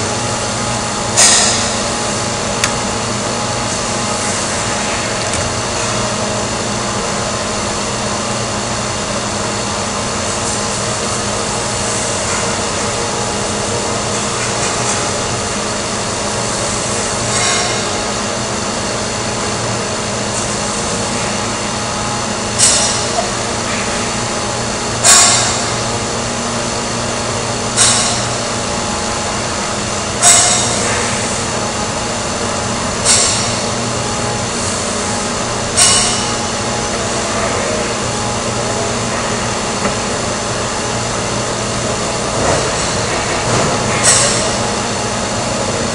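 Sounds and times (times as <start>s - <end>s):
workshop machinery hum: 0.0s - 45.9s.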